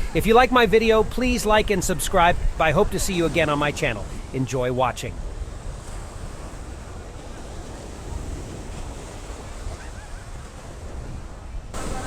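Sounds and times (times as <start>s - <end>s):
ocean surf washing on beach: 0.0s - 12.0s
wind rumbling on microphone: 0.0s - 12.0s.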